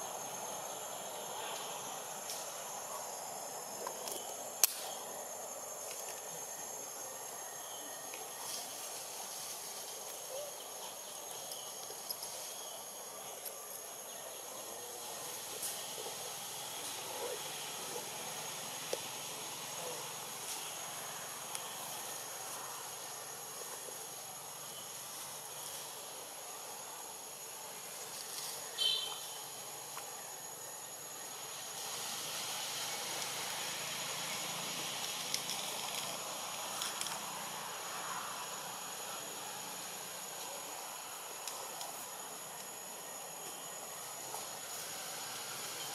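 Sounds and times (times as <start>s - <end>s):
insects buzzing: 0.0s - 45.9s
outdoor hiss: 0.0s - 45.9s.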